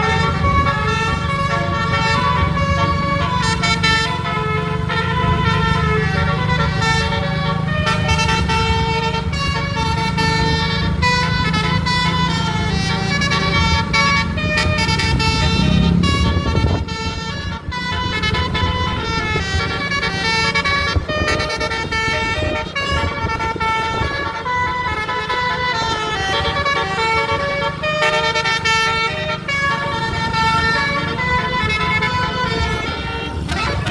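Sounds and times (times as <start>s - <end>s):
bus horn melody: 0.0s - 33.9s
engine hum: 0.0s - 33.9s.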